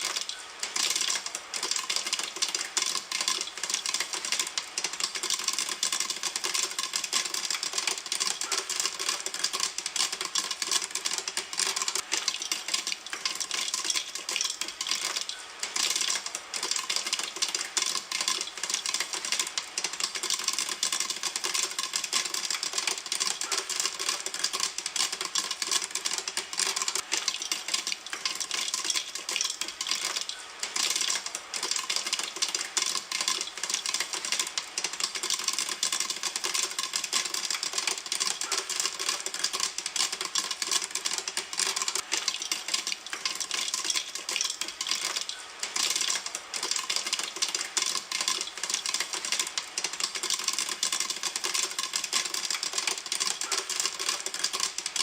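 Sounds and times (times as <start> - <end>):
popcorn popping in a pan: 0.0 - 55.0.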